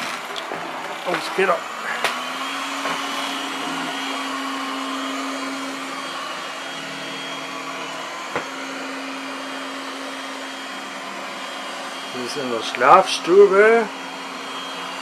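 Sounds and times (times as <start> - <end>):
robot vacuum motor whine: 0.0 - 15.0.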